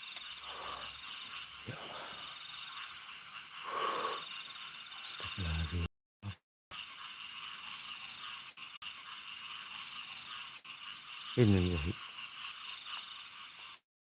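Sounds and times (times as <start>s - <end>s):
crickets chirping: 0.0s - 5.9s, 6.7s - 13.8s
quick insect chirps: 0.0s - 5.9s, 6.7s - 13.8s.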